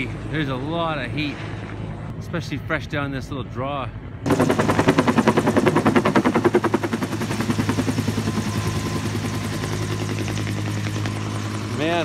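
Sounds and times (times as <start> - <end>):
helicopter rotor thumping overhead: 0.0 - 12.0.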